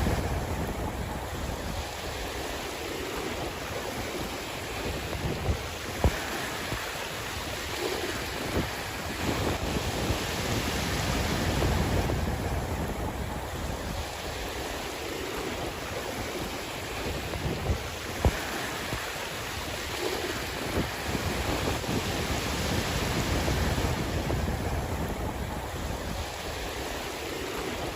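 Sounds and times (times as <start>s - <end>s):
sea waves washing in: 0.0s - 27.9s
wind rumbling on microphone: 0.0s - 27.9s.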